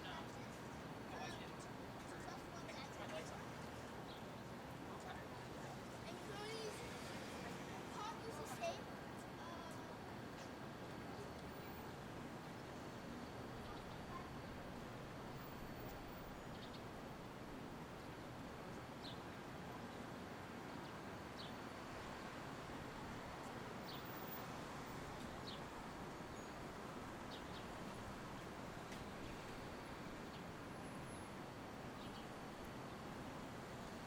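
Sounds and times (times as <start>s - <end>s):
street ambience hum: 0.0s - 34.0s.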